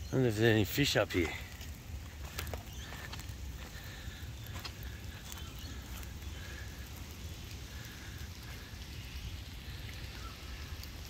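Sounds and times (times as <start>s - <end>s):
light rain hissing: 0.0s - 11.0s
low uneven rumble: 0.3s - 11.0s.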